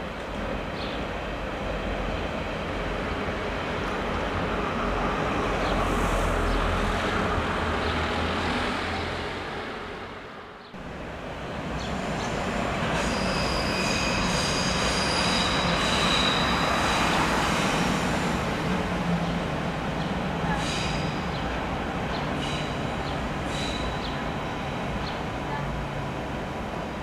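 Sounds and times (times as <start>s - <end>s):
electric train rumbling on bridge: 0.0s - 27.0s.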